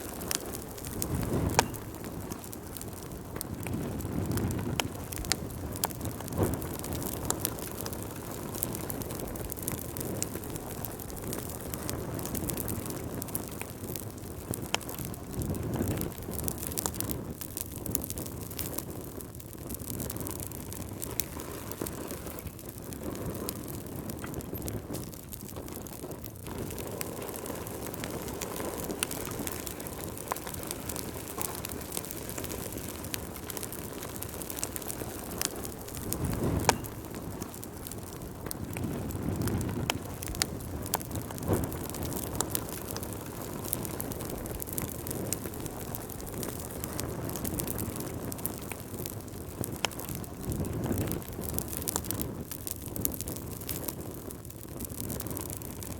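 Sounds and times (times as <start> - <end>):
low rush of flames: 0.0 - 55.9
wood fire crackling and popping: 0.0 - 55.9.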